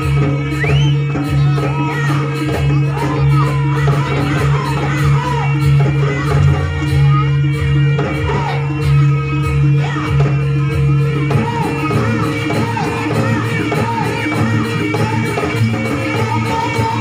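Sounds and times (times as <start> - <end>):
loud folk music with singing: 0.0 - 17.0.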